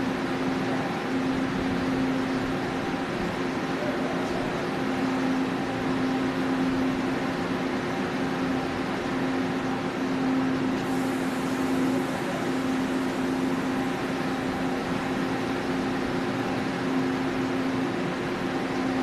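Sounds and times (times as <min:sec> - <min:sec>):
standing train humming: 0:00.0 - 0:19.0.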